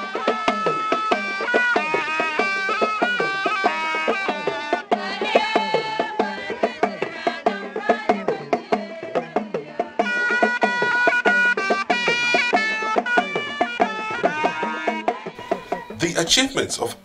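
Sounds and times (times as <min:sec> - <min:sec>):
drum rhythm with melody: 0:00.0 - 0:17.0.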